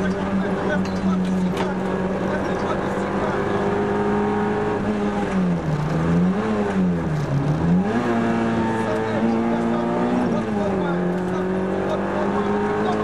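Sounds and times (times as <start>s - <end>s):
car engine revving from inside cabin: 0.0s - 13.0s.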